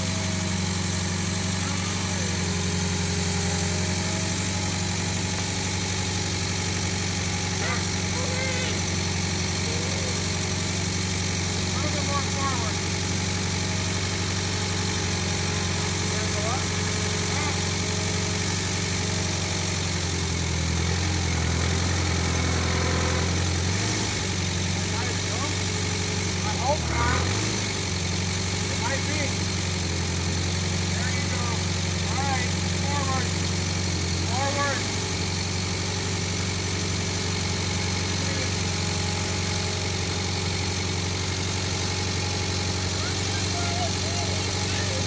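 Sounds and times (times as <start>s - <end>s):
loader engine idling: 0.0s - 45.0s.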